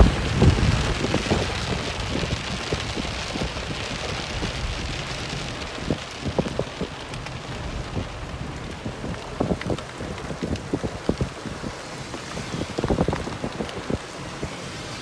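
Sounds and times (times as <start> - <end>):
rain on a car: 0.0 - 15.0.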